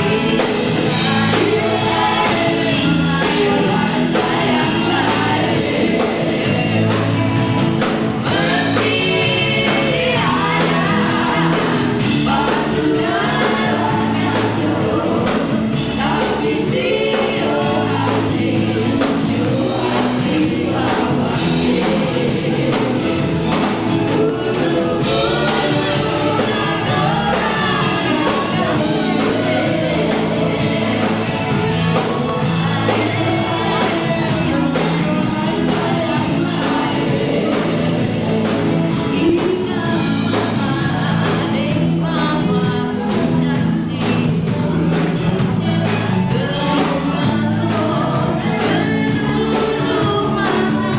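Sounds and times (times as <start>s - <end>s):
live band playing: 0.0s - 50.9s
several voices singing together: 0.0s - 50.9s.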